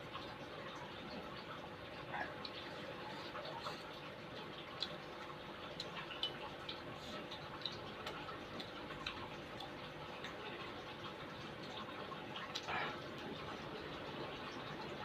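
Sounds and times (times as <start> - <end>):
faint hum: 0.1 - 15.0.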